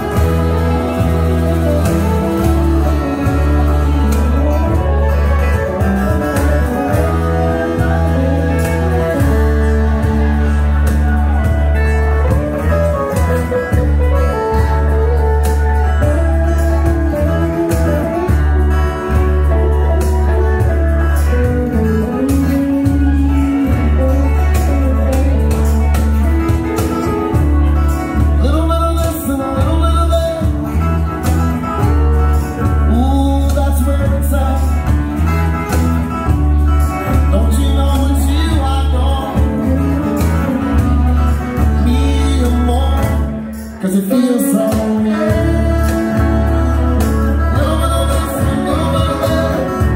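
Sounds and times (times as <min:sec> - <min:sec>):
live country band playing: 0:00.0 - 0:49.9.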